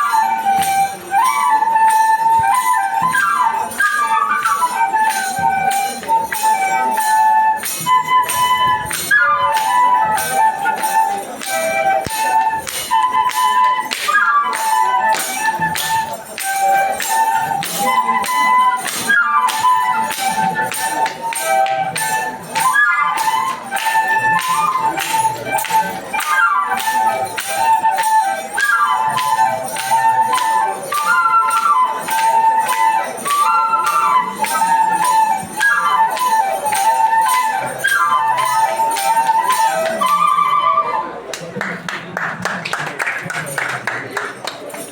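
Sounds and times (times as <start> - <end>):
percussive beat: 0.0 - 40.3
flute melody: 0.0 - 41.6.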